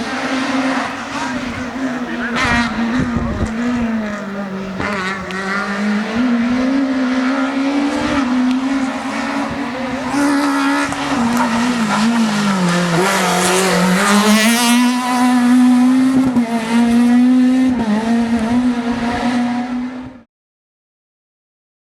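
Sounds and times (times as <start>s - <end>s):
rally car engine revving high: 0.0s - 20.3s.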